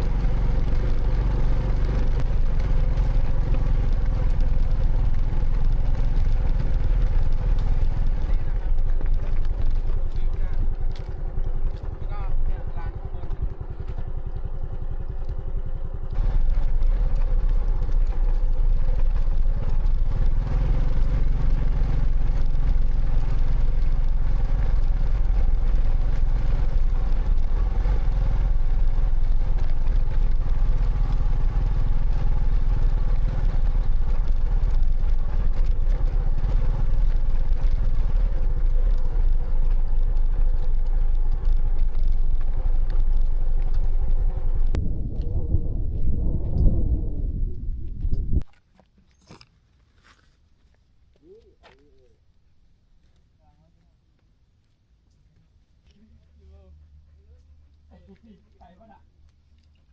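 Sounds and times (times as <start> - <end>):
motorcycle engine rumbling: 0.0 - 48.5, 55.2 - 59.9.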